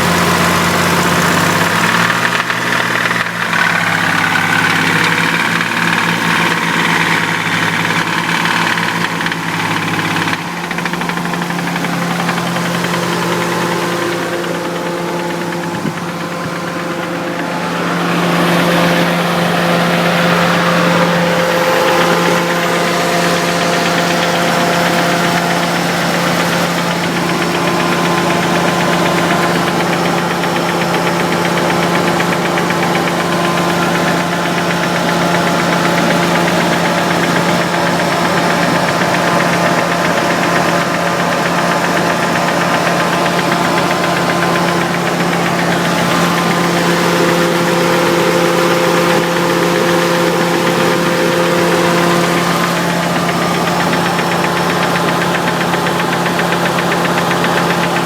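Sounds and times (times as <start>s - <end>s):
car engine running: 0.0s - 58.0s
rapid engine knock: 0.0s - 58.0s.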